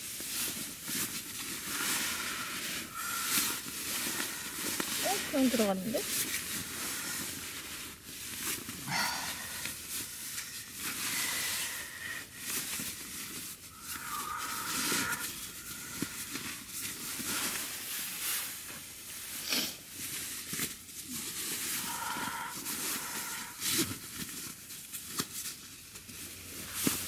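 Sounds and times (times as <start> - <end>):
nylon fabric rustling and crinkling: 0.0 - 27.0.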